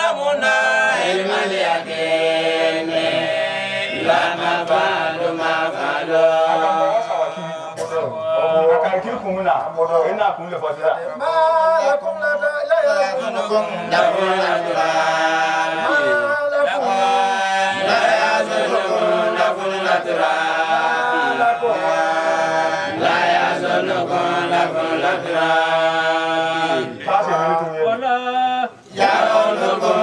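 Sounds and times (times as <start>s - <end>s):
men chanting melodically: 0.0s - 8.9s, 11.1s - 30.0s.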